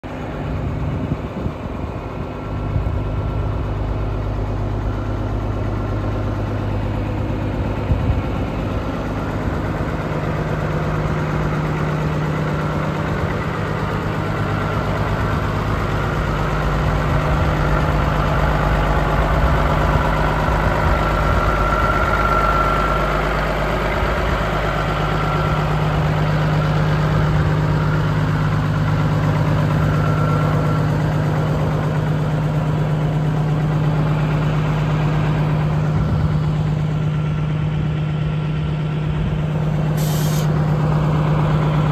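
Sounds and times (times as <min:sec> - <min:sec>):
truck diesel engine idling: 0:00.0 - 0:41.9.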